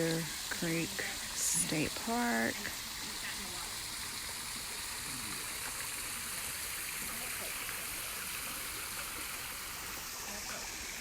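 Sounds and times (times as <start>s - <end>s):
creek water over small waterfall: 0.0s - 11.0s.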